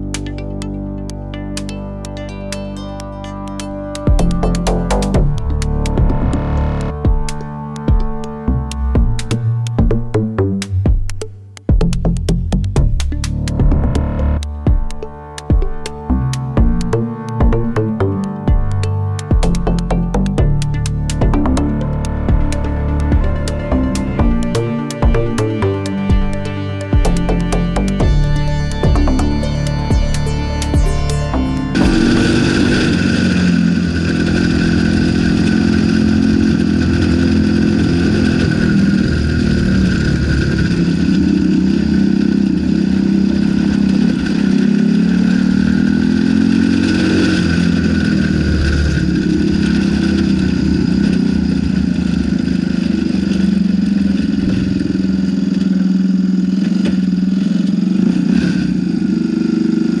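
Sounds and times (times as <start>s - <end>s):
go-kart engine revving: 4.1s - 10.6s, 13.1s - 60.0s.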